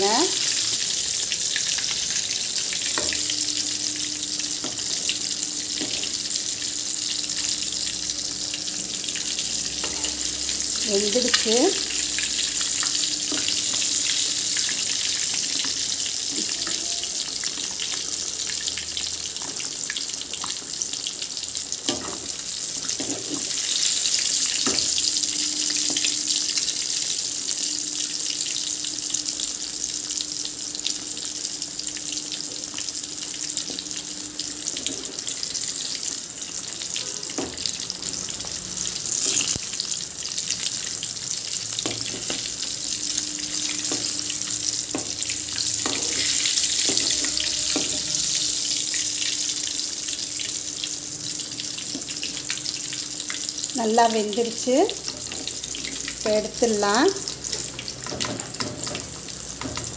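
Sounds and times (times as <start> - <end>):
hot oil sizzling and bubbling: 0.0 - 59.9.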